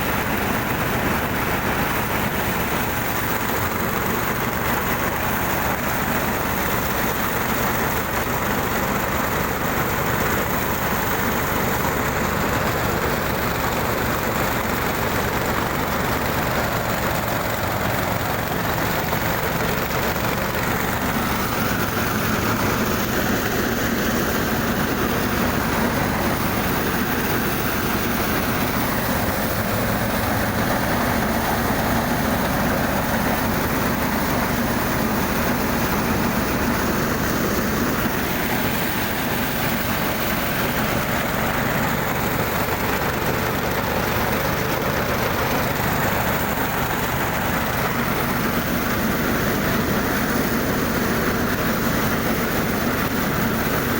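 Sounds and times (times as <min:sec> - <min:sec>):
engine machine humming and rattling: 0:00.0 - 0:53.9.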